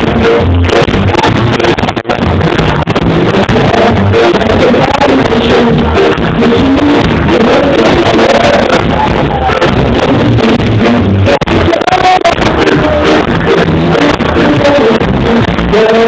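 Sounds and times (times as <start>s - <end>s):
live reggae band playing: 0.0s - 16.0s.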